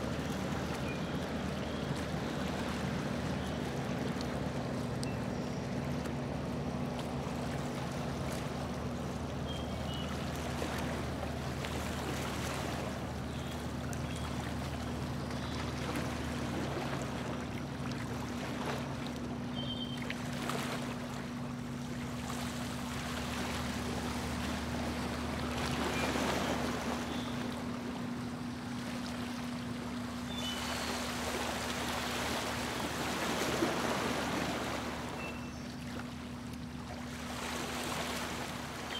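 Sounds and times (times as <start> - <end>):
boat motor humming: 0.0 - 38.9
water splashing along hull: 0.0 - 38.9.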